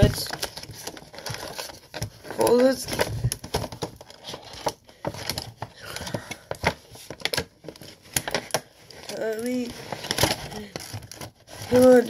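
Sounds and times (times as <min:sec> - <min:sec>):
packaging clicks and rustles: 0:00.0 - 0:12.0
plastic and cardboard crinkling: 0:00.0 - 0:12.0.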